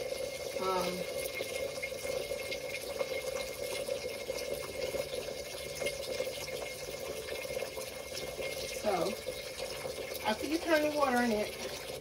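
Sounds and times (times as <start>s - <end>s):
tap water running into pan: 0.0s - 12.0s.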